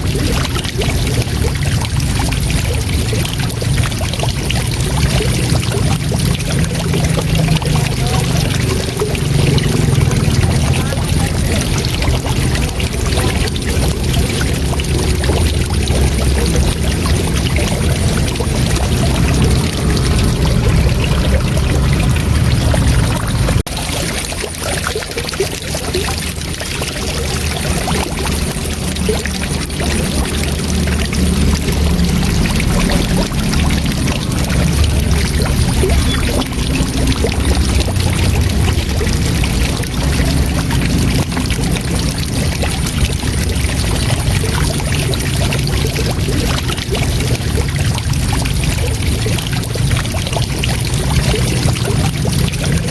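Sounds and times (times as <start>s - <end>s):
waterfall rushing and splashing: 0.0s - 52.9s.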